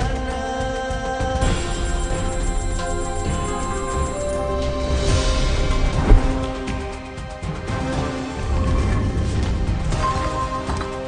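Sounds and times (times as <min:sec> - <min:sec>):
slot game background music: 0:01.5 - 0:11.0.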